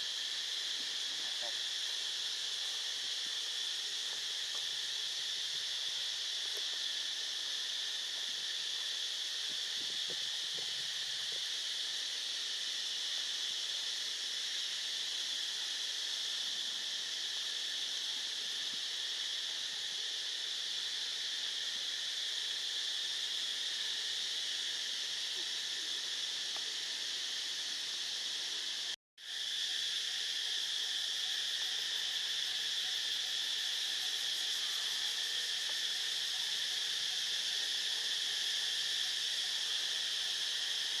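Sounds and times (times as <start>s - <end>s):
insects buzzing: 0.0s - 41.0s.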